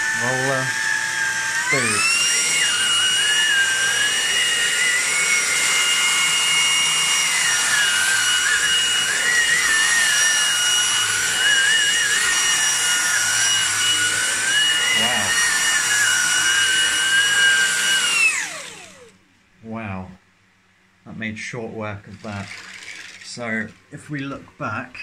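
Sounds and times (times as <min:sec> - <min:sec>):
vacuum cleaner motor whine: 0:00.0 - 0:19.2, 0:22.1 - 0:25.0.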